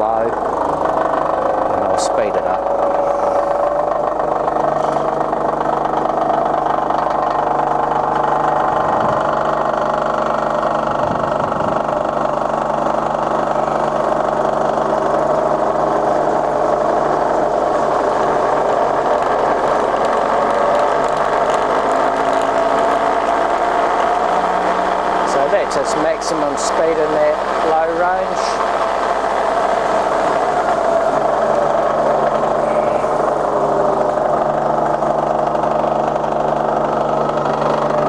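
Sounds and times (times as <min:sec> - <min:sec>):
milling machine whine: 0:00.0 - 0:38.0.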